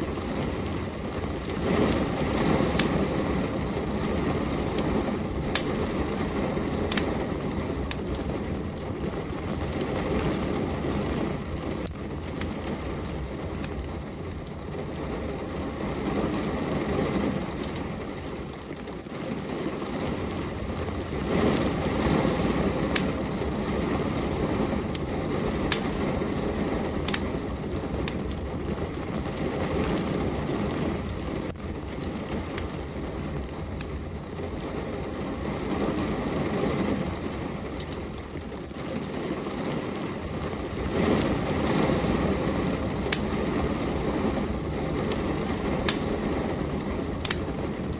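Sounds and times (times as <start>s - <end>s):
steady rain: 0.0s - 47.9s
wood fire crackling: 0.0s - 47.9s.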